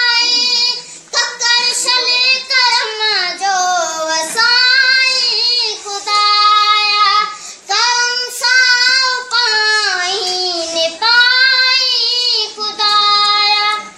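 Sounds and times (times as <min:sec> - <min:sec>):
boy singing unaccompanied: 0:00.0 - 0:13.9.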